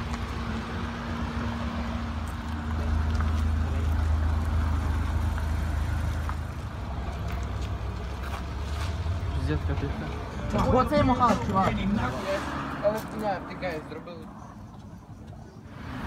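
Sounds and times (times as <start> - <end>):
motor vehicle droning: 0.0 - 16.0.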